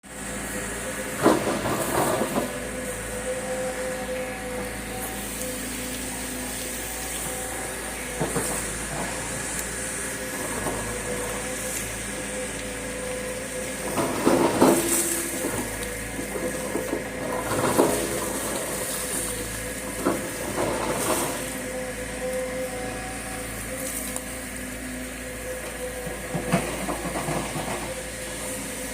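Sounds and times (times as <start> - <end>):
excavator running with whine: 0.0 - 28.9.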